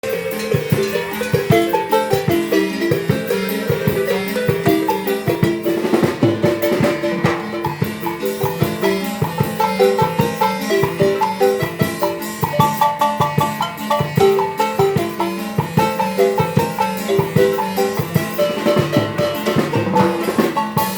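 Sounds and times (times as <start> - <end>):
marimba playing: 0.0 - 20.9
steady drum beat: 0.0 - 20.9.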